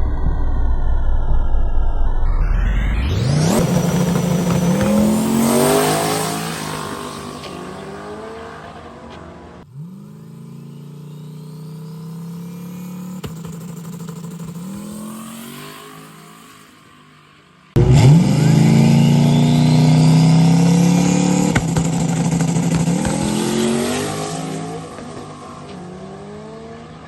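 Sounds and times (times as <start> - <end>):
drag car accelerating: 2.6 - 27.0.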